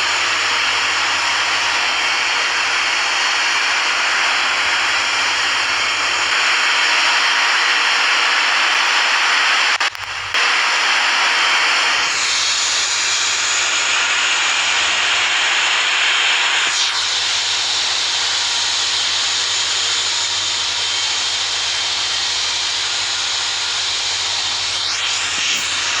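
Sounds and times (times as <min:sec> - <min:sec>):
jet engine high whine: 0:00.0 - 0:26.0.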